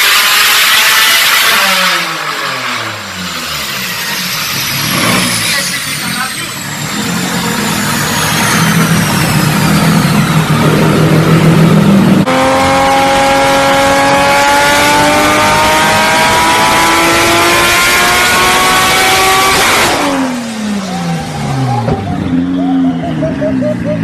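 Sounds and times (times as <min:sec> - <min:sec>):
turbocharged car engine revving: 0:00.0 - 0:24.0.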